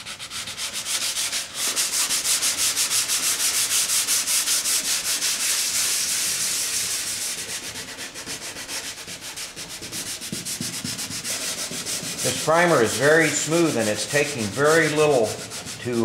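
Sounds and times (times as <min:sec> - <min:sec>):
sandpaper scratching on metal: 0:00.0 - 0:16.0.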